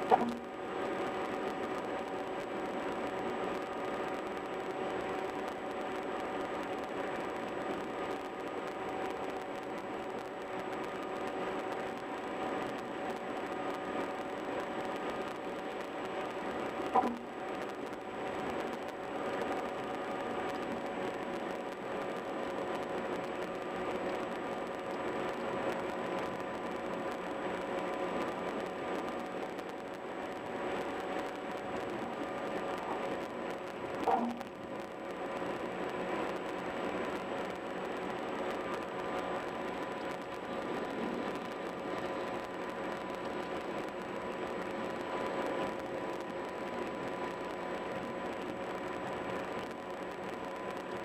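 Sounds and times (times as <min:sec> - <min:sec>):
faint hum: 0:00.0 - 0:51.0.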